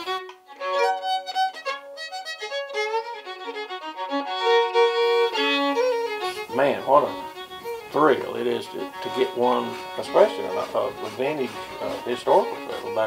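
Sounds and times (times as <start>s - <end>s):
fiddle playing a tune: 0.0s - 13.0s.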